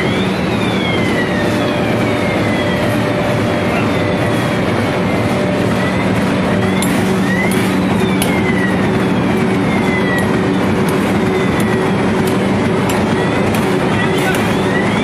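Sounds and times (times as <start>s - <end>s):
faint machine whine: 0.0s - 15.0s
machine humming: 0.0s - 15.0s.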